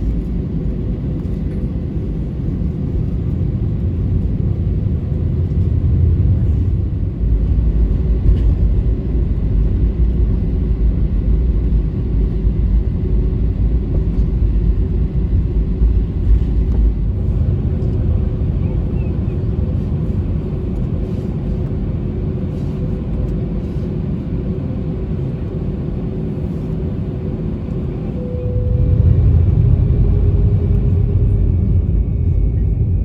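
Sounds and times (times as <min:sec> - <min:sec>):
aircraft rolling rumble: 0:00.0 - 0:33.0
jet engines at high power: 0:00.0 - 0:33.0.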